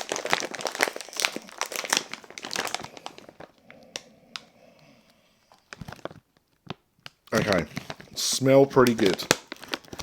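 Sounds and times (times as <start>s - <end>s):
plastic crisp packet crinkling: 0.0s - 4.5s, 5.5s - 10.0s.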